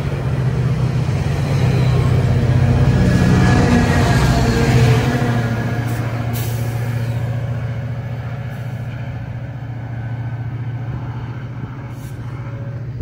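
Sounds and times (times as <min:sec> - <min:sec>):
diesel locomotive droning: 0:00.0 - 0:13.0.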